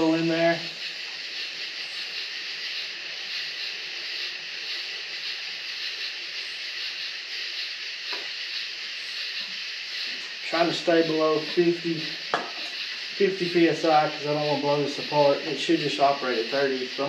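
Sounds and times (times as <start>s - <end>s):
refrigerant hissing through hose: 0.0s - 17.0s.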